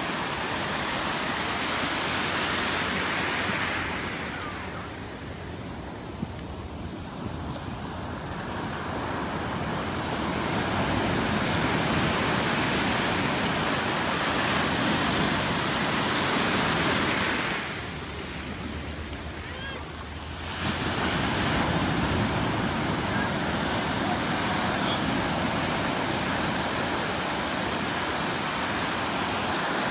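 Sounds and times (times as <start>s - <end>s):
ocean surf breaking: 0.0s - 29.9s.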